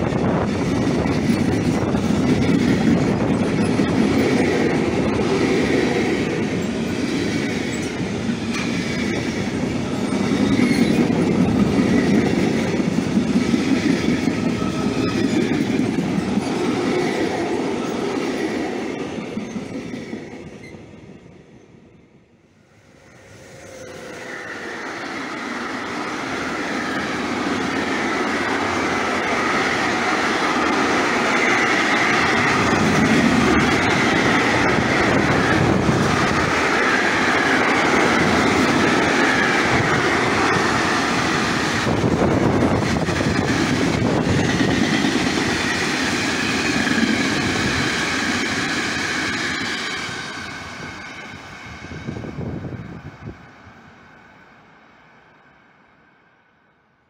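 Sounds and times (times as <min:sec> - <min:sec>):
freight train rolling on rails: 0:00.0 - 0:57.0.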